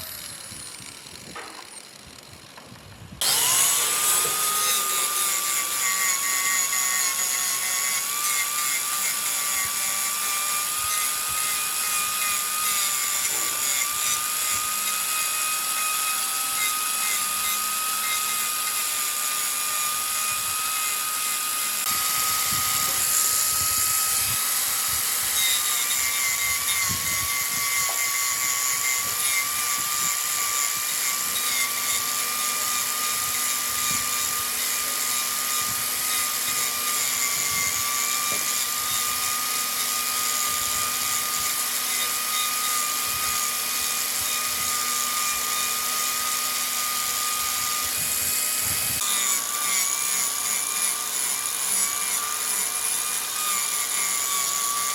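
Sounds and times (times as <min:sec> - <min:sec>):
wood lathe whining: 0:00.0 - 0:54.9.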